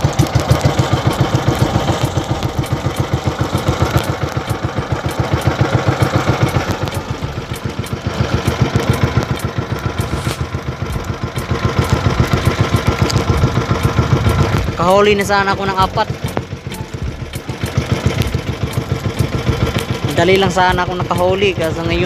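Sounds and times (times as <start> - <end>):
small boat engine putting: 0.0 - 22.0.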